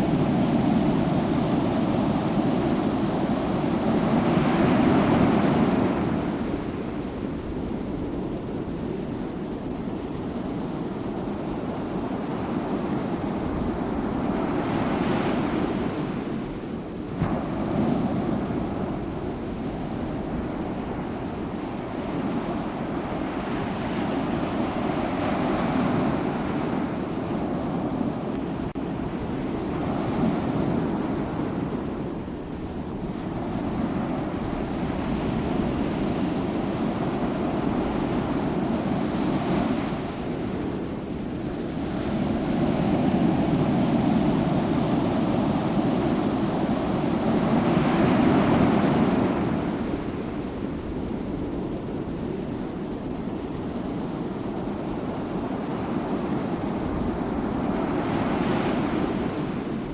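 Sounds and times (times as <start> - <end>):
sea waves washing onto shore: 0.0 - 59.9.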